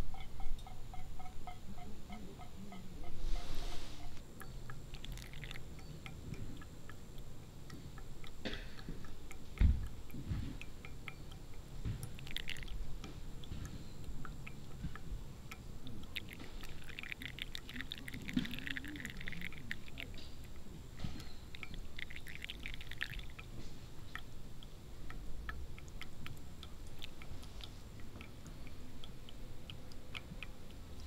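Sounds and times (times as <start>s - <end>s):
coffee dripping through filter: 0.0s - 31.0s.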